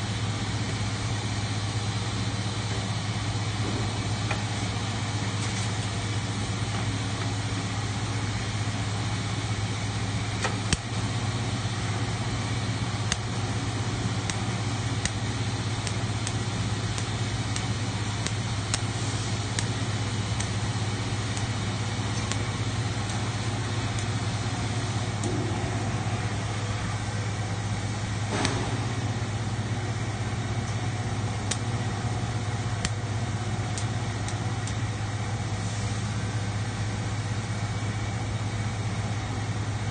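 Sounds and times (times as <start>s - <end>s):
factory machinery hum: 0.0s - 39.9s.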